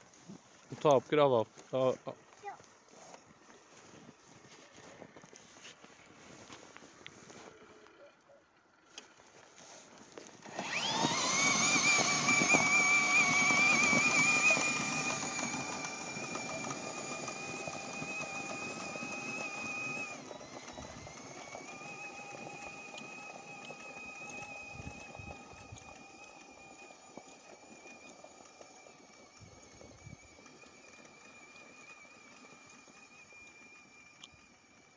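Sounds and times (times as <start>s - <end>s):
pedal tractor high-pitched whine: 1.8s - 34.9s.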